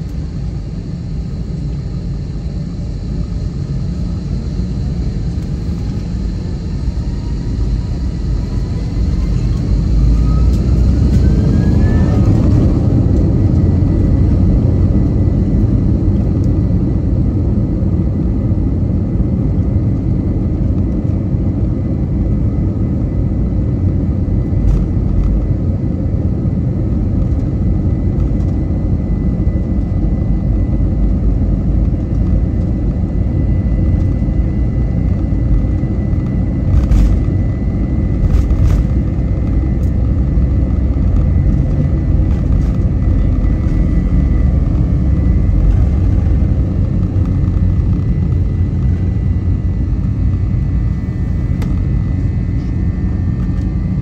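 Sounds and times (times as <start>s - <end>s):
engine and airflow rumble: 0.0s - 54.0s.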